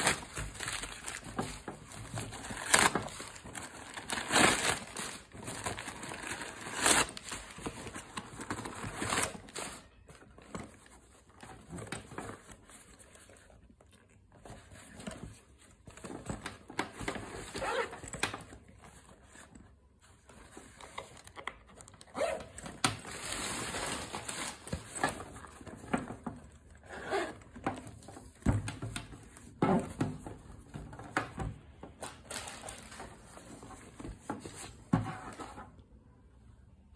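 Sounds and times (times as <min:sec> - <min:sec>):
newspaper rustling and crinkling: 0:00.0 - 0:26.8, 0:31.9 - 0:35.0.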